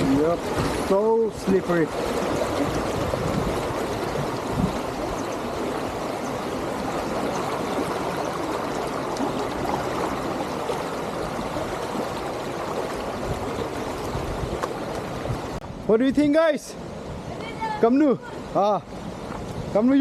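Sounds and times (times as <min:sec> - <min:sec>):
stream and waterfall rushing: 0:00.0 - 0:20.0.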